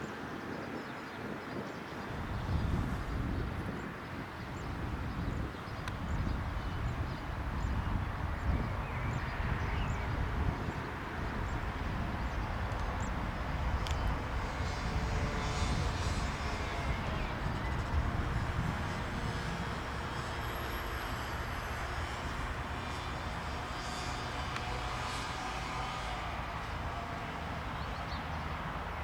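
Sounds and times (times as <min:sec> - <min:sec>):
jet engines rumbling: 0:02.1 - 0:28.9.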